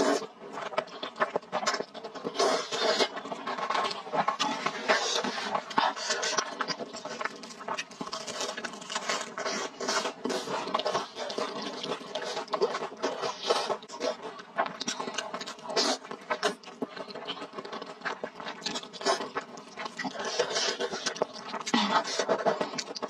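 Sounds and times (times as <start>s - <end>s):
wet sticky chewing: 0.0s - 23.0s.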